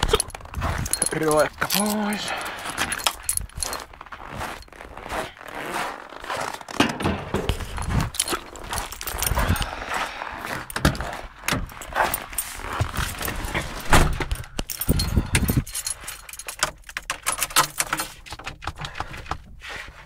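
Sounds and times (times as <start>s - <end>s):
handling clicks and knocks: 0.0s - 4.8s, 6.5s - 9.7s, 10.5s - 19.6s
keys jangling: 0.0s - 5.1s, 7.4s - 18.4s.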